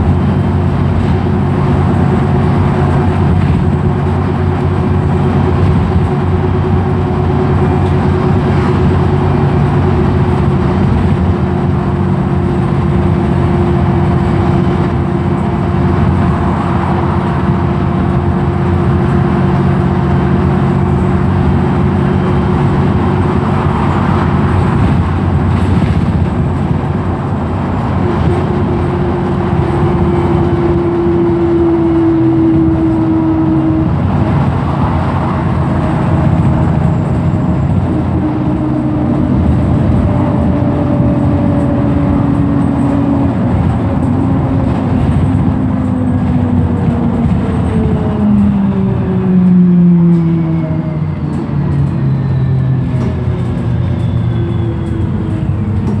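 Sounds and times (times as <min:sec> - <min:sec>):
bus engine and road noise: 0:00.0 - 0:56.0
steady whine: 0:00.0 - 0:56.0.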